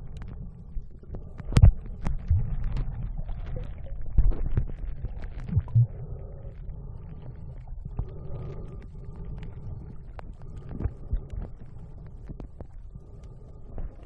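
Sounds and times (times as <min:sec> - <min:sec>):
muffled underwater rumbling: 0:00.0 - 0:14.0.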